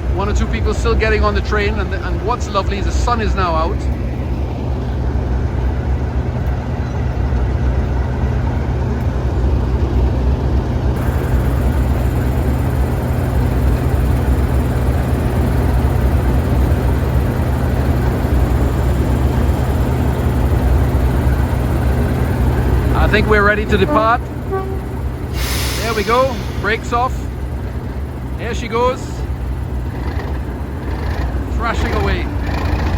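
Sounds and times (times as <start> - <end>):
diesel locomotives idling: 0.0 - 32.9.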